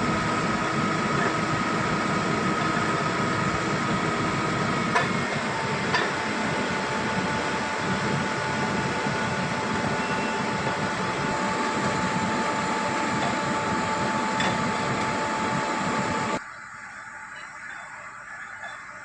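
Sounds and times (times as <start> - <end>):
heavy construction machinery running: 0.0 - 16.4
high whine: 0.0 - 19.0.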